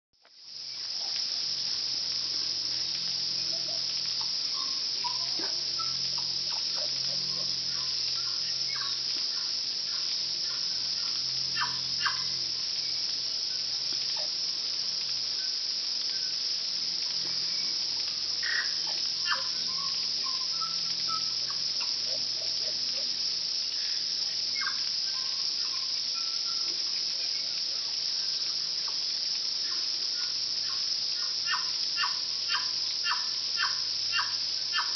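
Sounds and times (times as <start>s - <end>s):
high-pitched insect drone: 0.2s - 34.9s.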